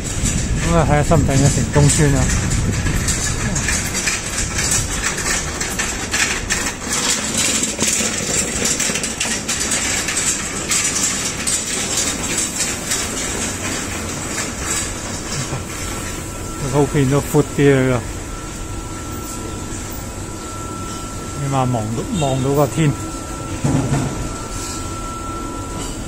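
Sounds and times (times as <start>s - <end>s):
low mechanical rumble and hiss: 0.0s - 26.0s.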